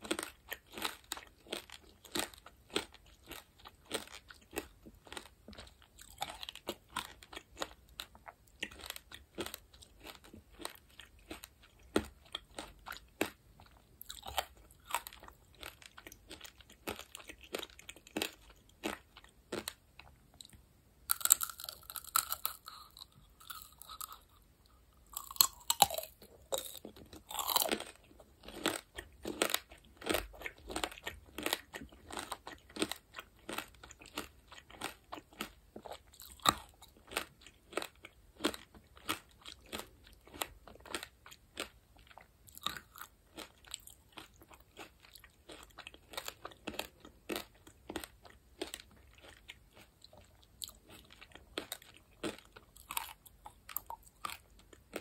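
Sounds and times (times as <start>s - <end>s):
candy crunching and chewing: 0.0s - 55.0s.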